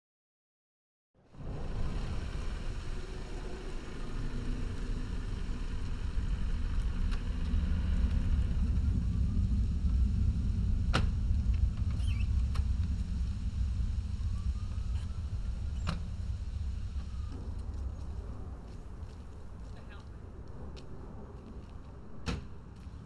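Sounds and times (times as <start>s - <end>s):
low steady rumble: 1.2s - 23.0s.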